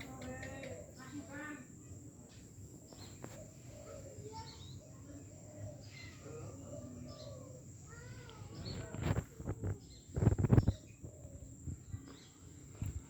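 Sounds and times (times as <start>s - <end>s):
bird calls and chirps: 0.0s - 13.0s.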